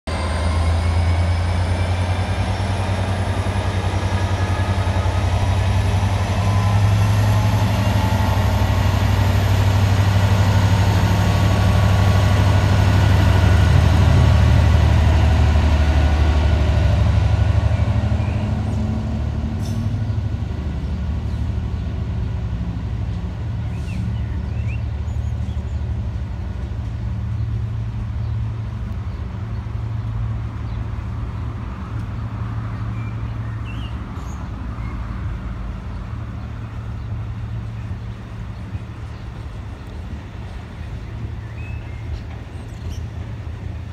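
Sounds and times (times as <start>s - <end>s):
diesel locomotive rumble: 0.1s - 43.9s
locomotive high whine: 0.1s - 43.9s.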